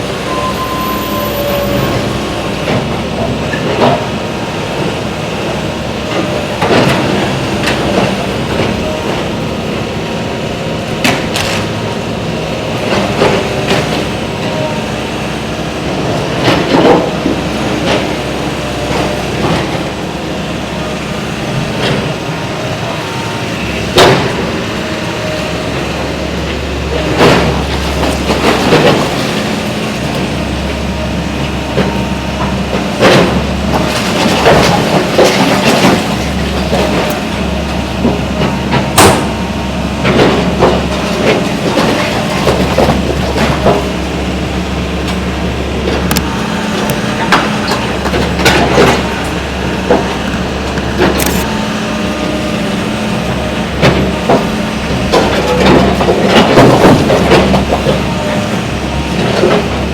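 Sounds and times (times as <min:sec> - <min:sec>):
heavy machinery rumbling: 0:00.0 - 0:59.9.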